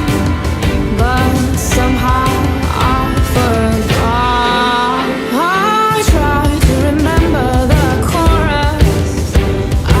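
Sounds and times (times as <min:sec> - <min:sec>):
pop song with steady beat: 0:00.0 - 0:10.0.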